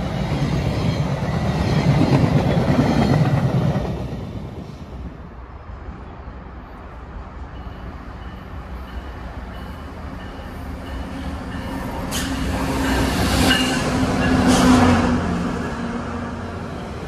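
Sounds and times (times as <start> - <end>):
train approaching: 0.0 - 17.0.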